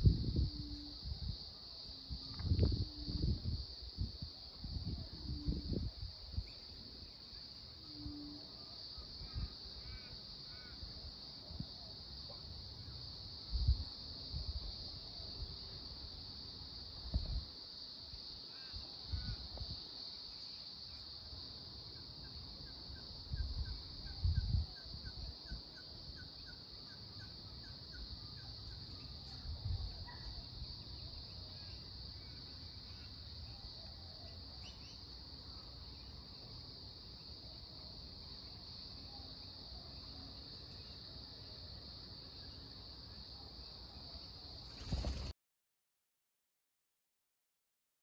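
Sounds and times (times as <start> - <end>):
cicadas droning: 0.0 - 45.3.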